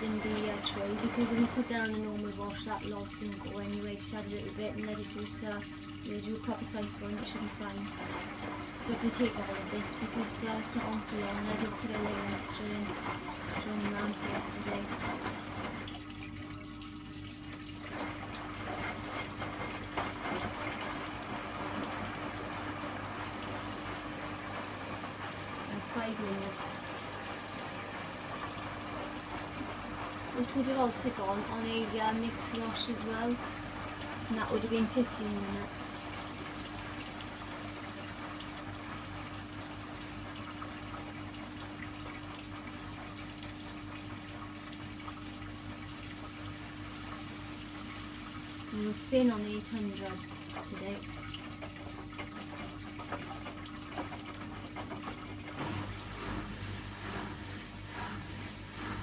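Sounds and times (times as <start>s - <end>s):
low steady hum: 0.0s - 59.0s
water rushing into washing machine: 0.0s - 59.0s.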